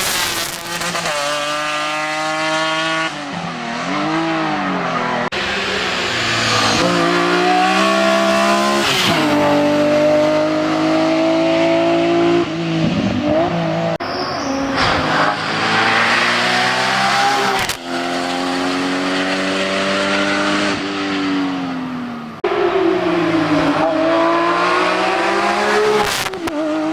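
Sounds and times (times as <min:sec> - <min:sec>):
racing car engine revving: 0:00.2 - 0:26.9.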